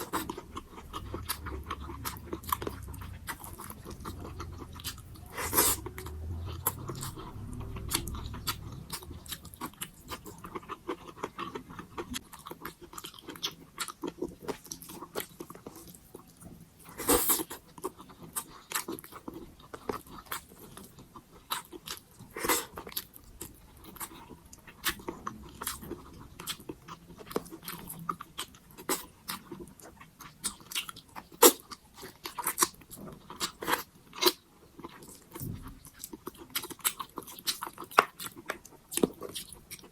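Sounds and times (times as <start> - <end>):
wet chewing and mouth clicks: 0.0 - 39.9.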